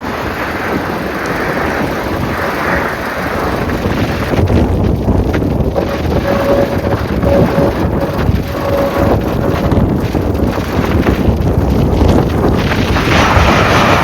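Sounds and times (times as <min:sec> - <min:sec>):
deep rumble: 0:00.0 - 0:14.0
wind buffeting microphone: 0:00.0 - 0:14.0
wind roaring: 0:00.0 - 0:14.0.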